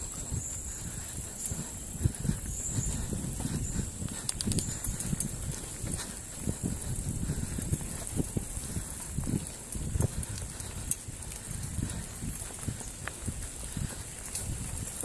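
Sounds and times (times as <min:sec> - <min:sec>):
bike tyres rumbling on dirt: 0:00.0 - 0:15.0.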